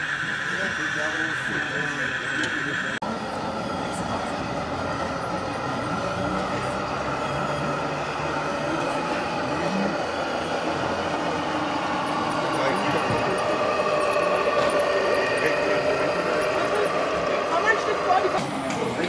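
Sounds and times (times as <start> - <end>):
high whine: 0.0 - 19.0
rc truck motor humming: 0.0 - 19.0.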